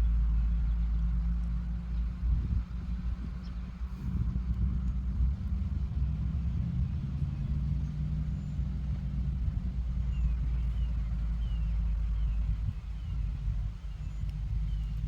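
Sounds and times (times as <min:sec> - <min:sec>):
heavy truck engine rumbling: 0:00.0 - 0:15.0.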